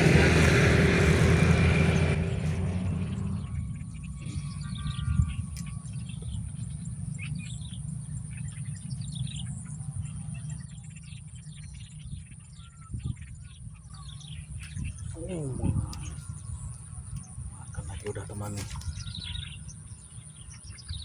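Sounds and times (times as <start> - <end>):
birds chirping: 0.0 - 21.0
continuous low rumble: 0.0 - 21.0.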